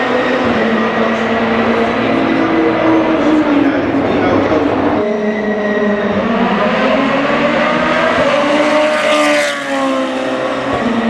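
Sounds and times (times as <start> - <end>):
race car passing close: 0.0 - 11.0
racing engines: 0.0 - 11.0.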